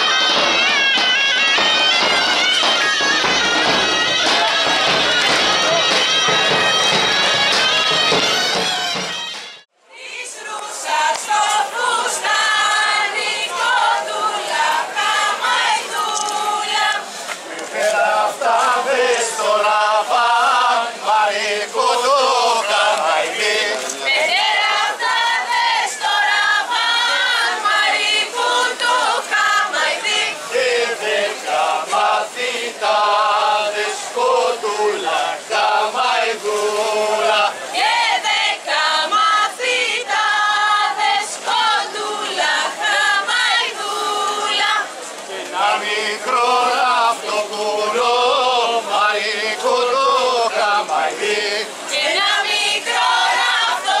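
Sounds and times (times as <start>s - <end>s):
group of voices singing: 0.0s - 54.0s.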